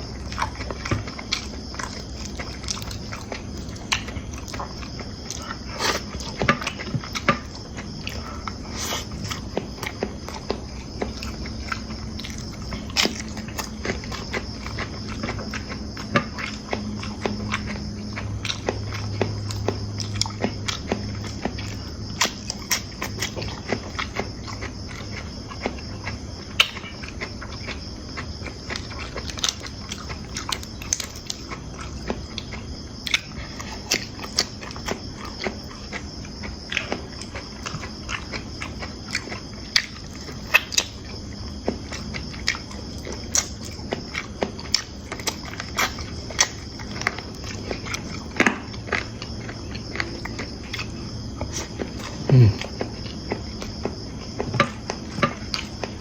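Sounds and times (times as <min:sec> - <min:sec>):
insects chirring: 0:00.0 - 0:56.0
person chewing: 0:00.0 - 0:56.0.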